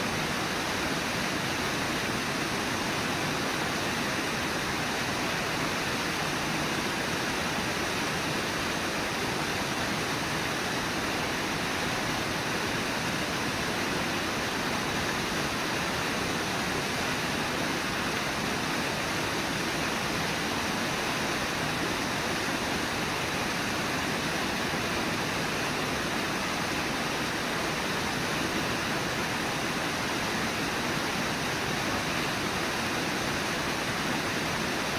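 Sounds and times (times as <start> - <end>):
water rushing over waterfall: 0.0 - 34.9.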